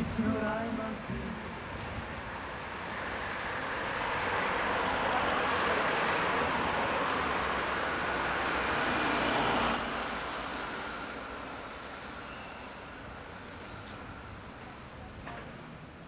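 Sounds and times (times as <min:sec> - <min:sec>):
passing vehicles rushing: 0:00.0 - 0:14.6.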